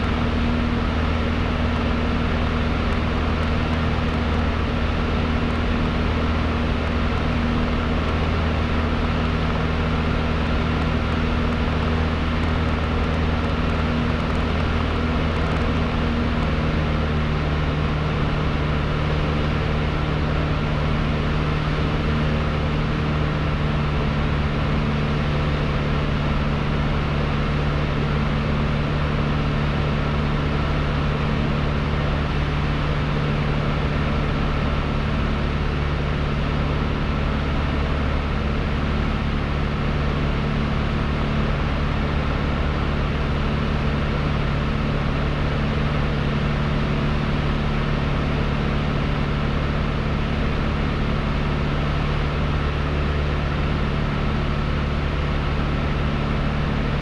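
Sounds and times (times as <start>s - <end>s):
airplane engine and propeller droning: 0.0s - 57.0s.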